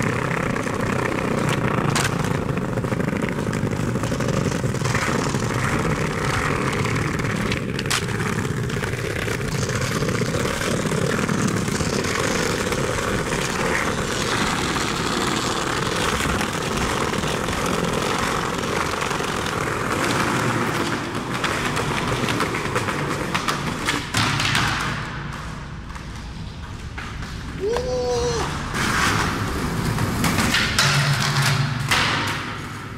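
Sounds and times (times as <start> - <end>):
skateboard sharp clack: 0.0 - 27.9, 28.5 - 32.9
skateboard wheels rolling on bricks: 0.0 - 32.9.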